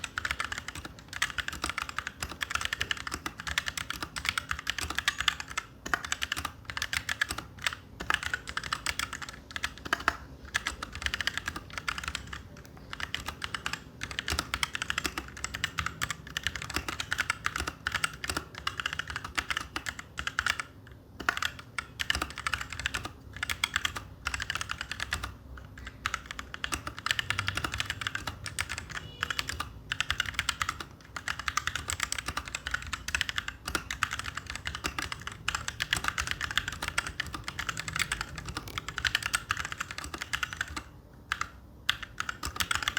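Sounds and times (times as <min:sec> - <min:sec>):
mechanical keyboard key clacks: 0:00.0 - 0:42.9.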